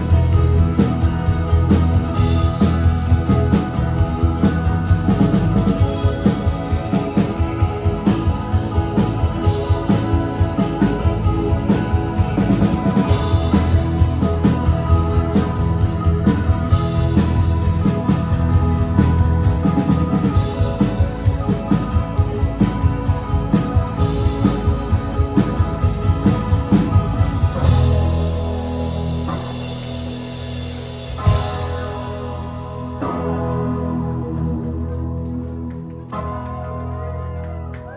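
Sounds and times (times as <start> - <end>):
drum kit beat: 0.0 - 35.5
bass guitar: 0.0 - 37.9
electric guitars: 0.0 - 37.9.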